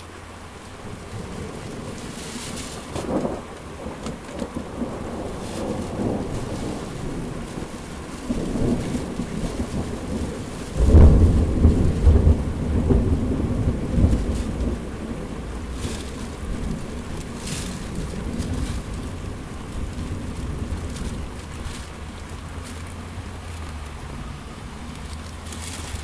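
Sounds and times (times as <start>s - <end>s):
heavy rain falling: 0.0s - 26.0s
thunder rumble: 0.0s - 26.0s.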